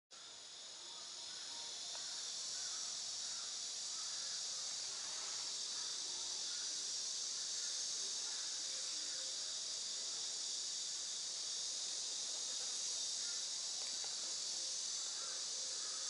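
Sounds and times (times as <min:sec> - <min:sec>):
high-pitched insect chorus: 0:00.1 - 0:16.0.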